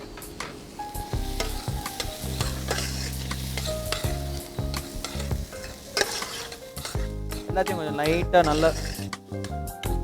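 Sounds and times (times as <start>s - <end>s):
vegetables sizzling in a pan: 0.0s - 9.4s
spoon scraping a pan: 1.2s - 9.5s.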